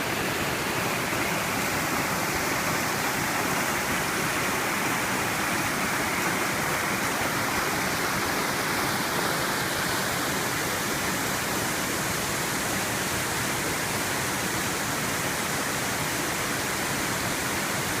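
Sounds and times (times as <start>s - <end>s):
waterfall pouring: 0.0s - 18.0s.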